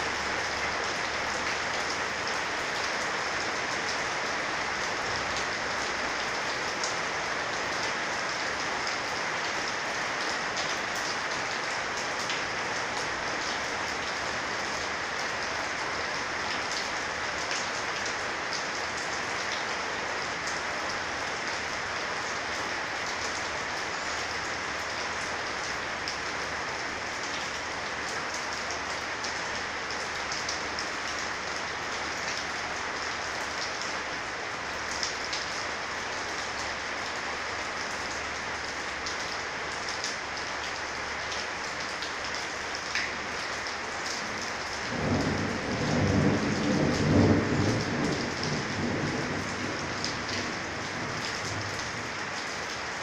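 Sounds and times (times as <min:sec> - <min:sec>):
heavy rain on metal roof: 0:00.0 - 0:53.0.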